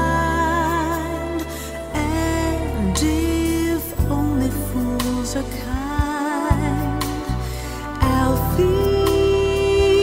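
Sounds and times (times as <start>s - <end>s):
low bass notes: 0.0s - 10.0s
person singing long wavering notes: 0.0s - 10.0s.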